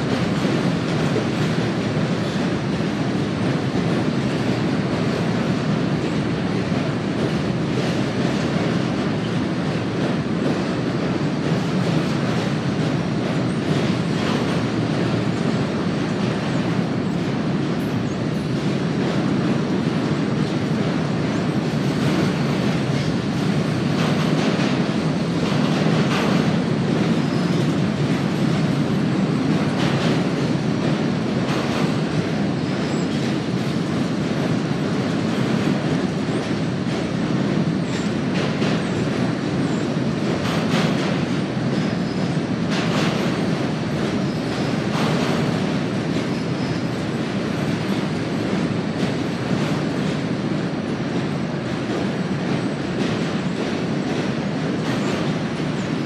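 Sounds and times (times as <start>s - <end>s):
freight train rumbling over bridge: 0.0s - 56.0s.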